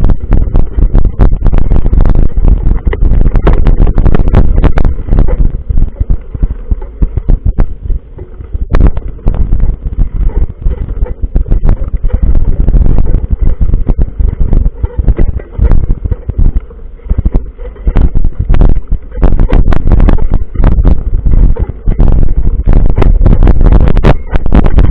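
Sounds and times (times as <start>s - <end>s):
gusty wind buffeting microphone: 0.0s - 24.9s.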